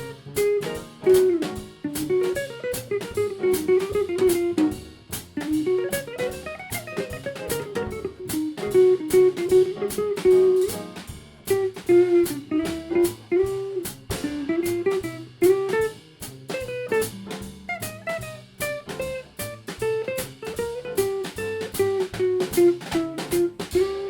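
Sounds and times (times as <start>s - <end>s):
guitar melody: 0.0s - 24.0s
jazz band playing: 0.0s - 24.0s.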